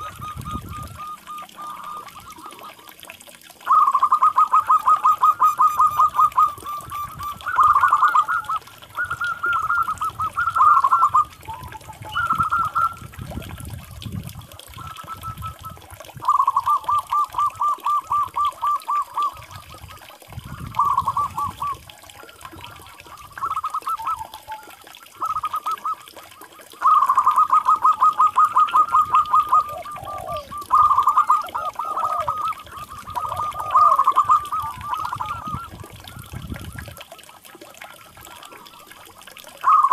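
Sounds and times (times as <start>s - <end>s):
doves cooing: 0.0s - 13.5s, 14.5s - 39.9s.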